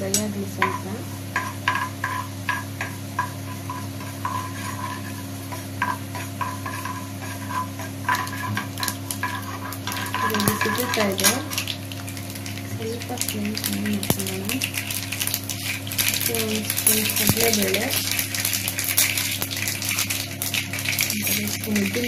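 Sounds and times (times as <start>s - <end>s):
seeds sizzling in hot oil: 0.0s - 22.0s
steady low hum: 0.0s - 22.0s
metal spoon clinking against pan: 0.1s - 12.1s, 13.0s - 20.1s.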